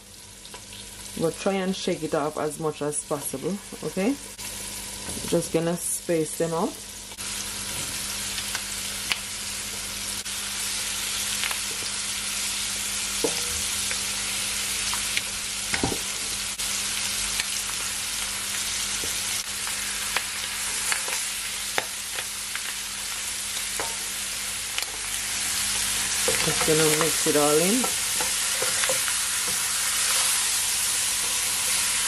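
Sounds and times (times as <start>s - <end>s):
chicken frying in hot oil: 6.0s - 32.0s.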